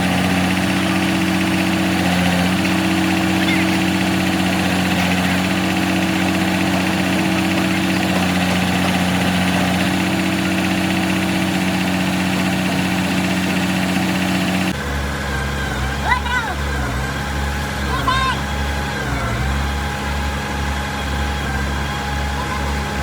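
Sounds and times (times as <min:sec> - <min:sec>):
excavator diesel engine idling: 0:00.0 - 0:23.0
lower engine sound: 0:00.0 - 0:23.0.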